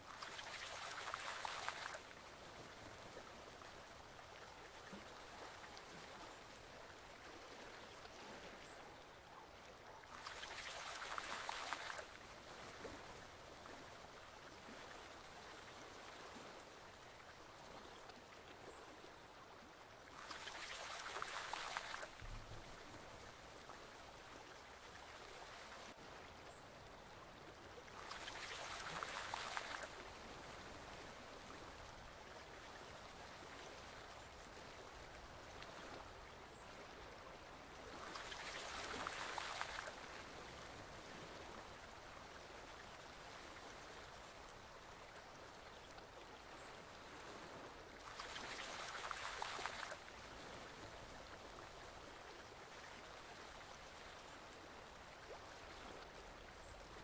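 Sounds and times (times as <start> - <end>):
rush of water: 0.0 - 57.0
stream running: 0.0 - 57.0.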